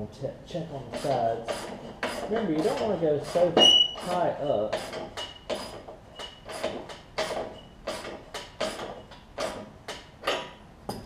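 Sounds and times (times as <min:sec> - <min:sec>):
ratchet clicking: 0:00.9 - 0:04.2, 0:04.8 - 0:10.5.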